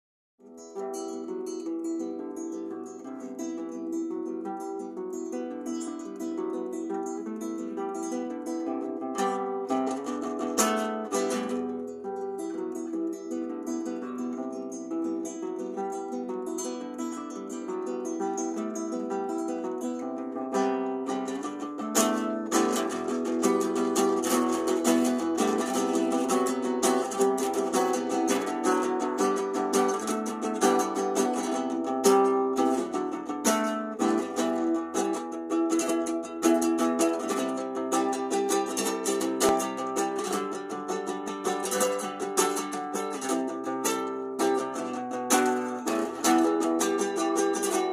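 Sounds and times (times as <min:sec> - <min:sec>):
plucked guitar music: 0:00.4 - 0:47.9.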